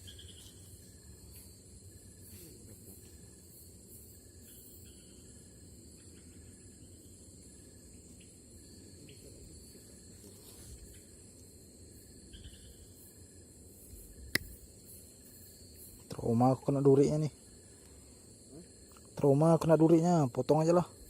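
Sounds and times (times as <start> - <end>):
high-pitched insect trill: 0.0 - 21.0
short insect chirps: 0.0 - 21.0.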